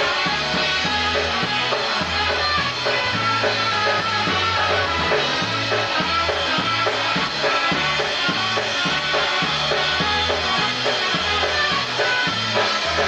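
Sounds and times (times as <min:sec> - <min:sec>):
bass line: 0:00.0 - 0:13.0
polka band playing: 0:00.0 - 0:13.0.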